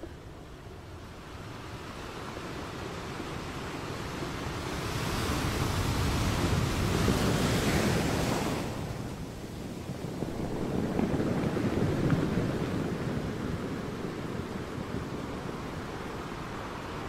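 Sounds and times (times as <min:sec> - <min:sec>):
ocean waves breaking: 0:00.1 - 0:17.0.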